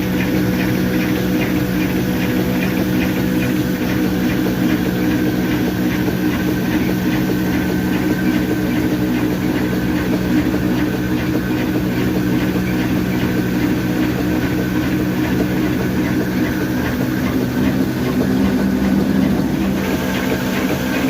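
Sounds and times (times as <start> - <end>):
diesel engine throbbing: 0.0 - 21.0.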